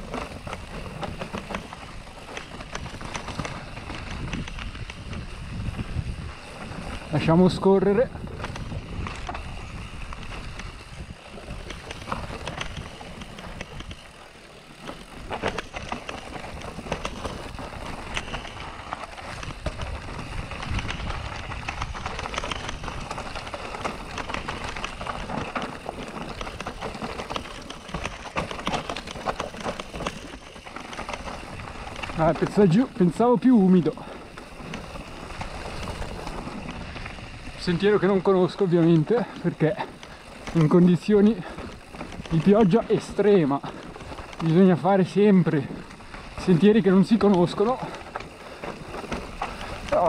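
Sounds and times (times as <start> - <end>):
bike clattering and rattling: 0.0 - 50.0.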